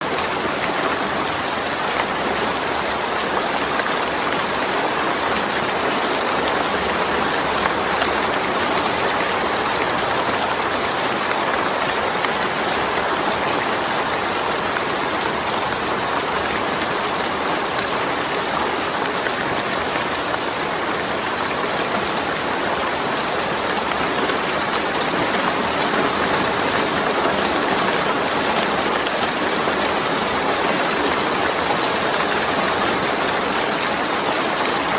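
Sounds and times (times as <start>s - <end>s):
rain on a metal roof: 0.0s - 34.9s.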